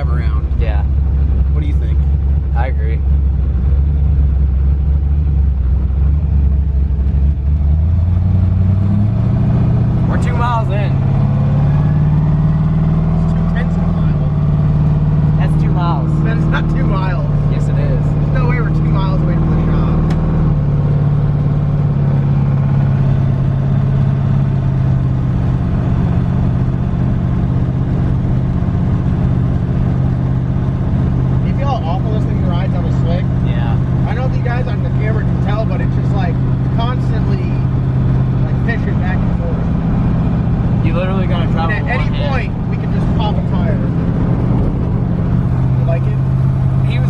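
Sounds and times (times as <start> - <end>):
car engine droning: 0.0 - 47.0.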